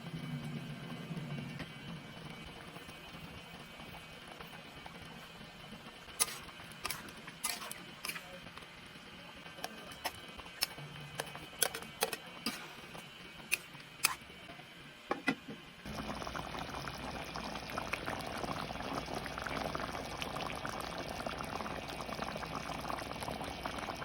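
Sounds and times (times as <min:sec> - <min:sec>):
pan bubbling and sizzling: 0:00.0 - 0:14.4, 0:15.8 - 0:24.0.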